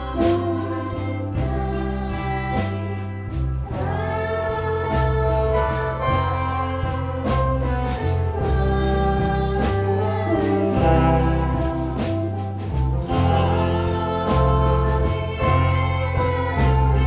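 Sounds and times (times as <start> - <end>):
band music with drums and bass: 0.0 - 17.0.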